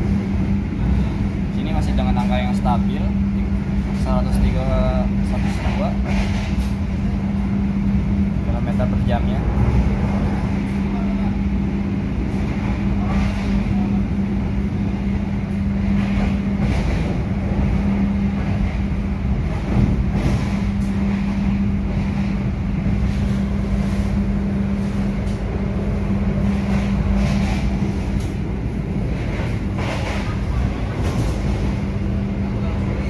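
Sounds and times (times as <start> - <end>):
constant low hum: 0.0 - 33.0
train wheels rumbling on rails: 0.0 - 33.0.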